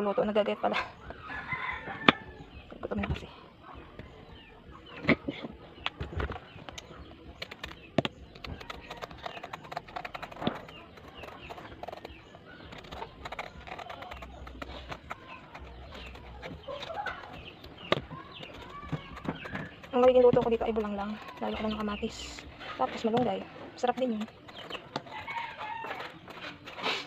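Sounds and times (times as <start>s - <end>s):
birds chirping: 0.0s - 27.0s
chickens clucking: 0.0s - 27.0s.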